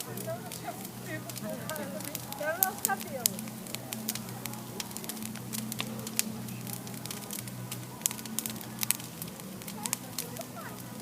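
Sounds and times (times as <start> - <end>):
bonfire crackling and popping: 0.0 - 11.0.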